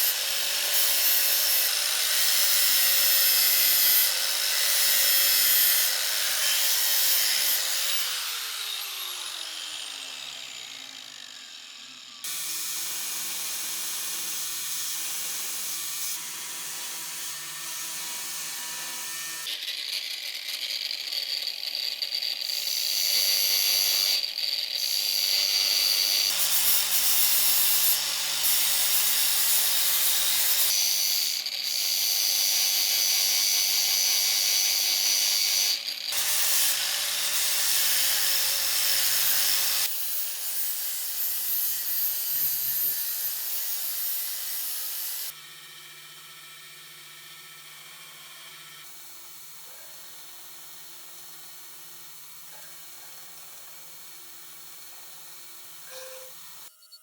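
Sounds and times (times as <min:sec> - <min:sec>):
power tool running: 0:00.0 - 0:56.7.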